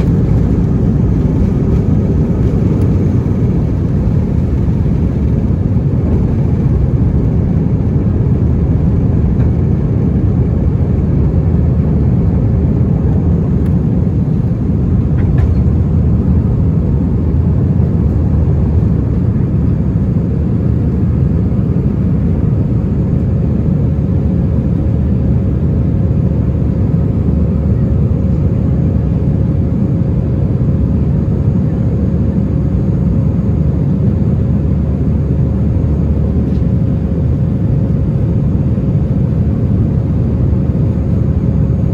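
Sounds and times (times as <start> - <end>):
airliner cabin engine rush: 0.0 - 41.9.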